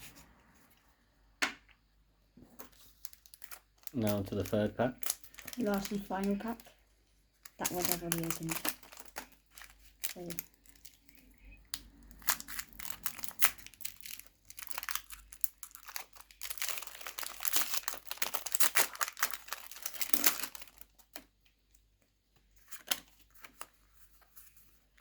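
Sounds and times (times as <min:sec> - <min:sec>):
foil wrapper crinkling: 0:02.6 - 0:25.0.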